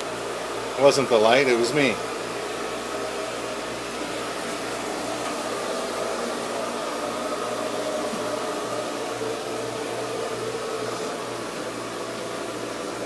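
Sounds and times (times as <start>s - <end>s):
machinery hum with fan whir: 0.0s - 13.0s.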